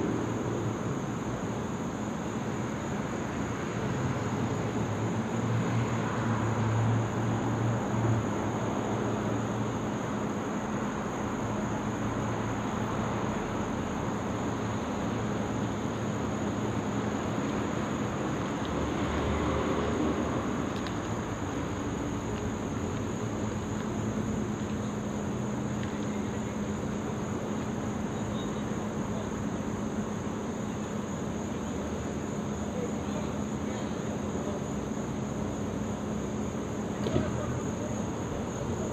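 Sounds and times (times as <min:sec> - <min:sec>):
insect trill: 0:00.0 - 0:38.9.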